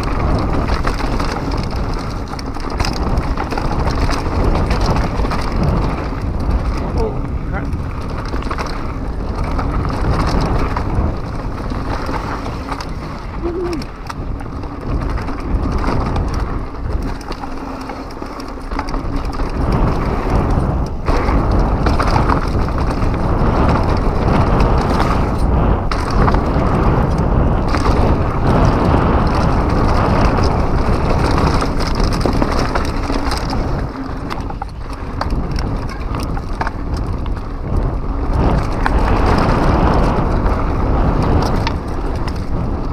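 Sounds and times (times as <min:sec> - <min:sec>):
bike rattling and knocking: 0:00.0 - 0:42.9
tyres rolling over dirt: 0:00.0 - 0:42.9.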